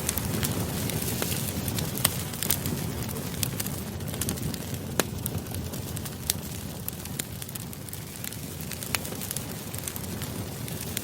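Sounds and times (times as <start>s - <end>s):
campfire crackling: 0.0s - 11.0s
fire pops and snaps: 0.0s - 11.0s.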